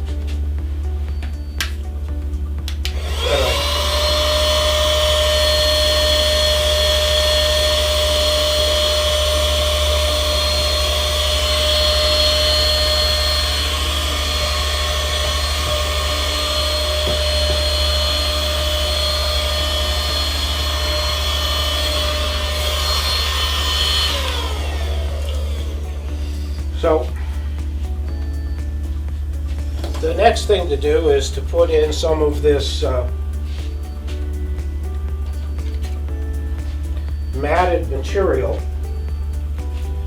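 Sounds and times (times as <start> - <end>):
small electric motor whirring: 2.9 - 40.0.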